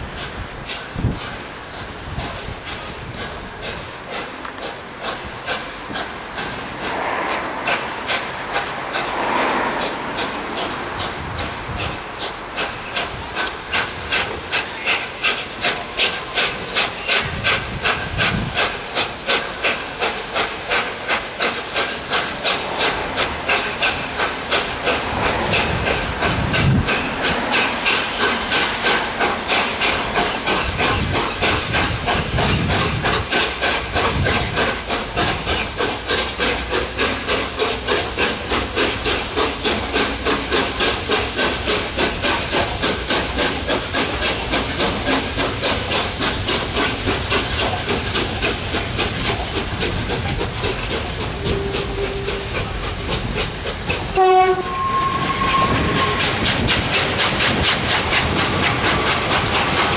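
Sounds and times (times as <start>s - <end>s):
steady steam hiss: 0.0s - 59.9s
steam locomotive chuffing: 0.0s - 59.9s.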